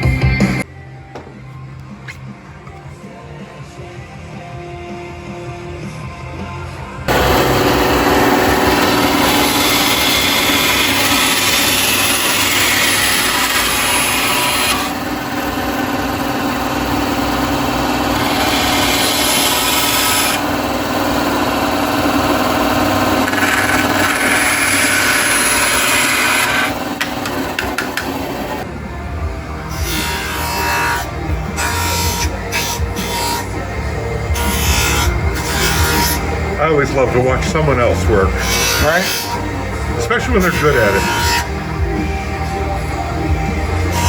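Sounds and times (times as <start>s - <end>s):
power tool grinding: 7.1s - 28.7s, 29.6s - 44.0s.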